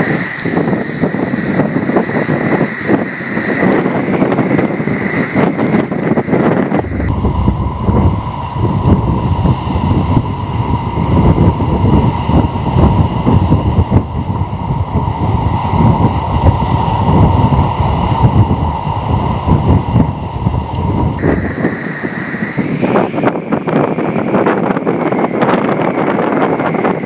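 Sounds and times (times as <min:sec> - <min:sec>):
faint steady whine: 0:00.0 - 0:27.0
wind buffeting microphone: 0:00.0 - 0:27.0.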